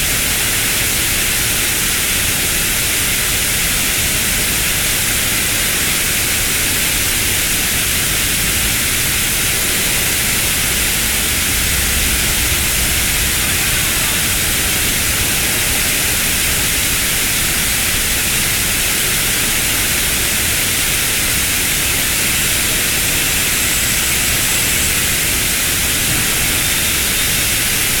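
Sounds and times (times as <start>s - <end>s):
water cascading down fountain: 0.0s - 28.0s.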